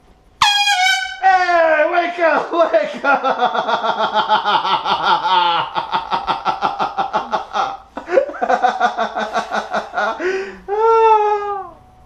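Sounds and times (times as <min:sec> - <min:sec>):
person laughing hard: 0:01.2 - 0:11.8.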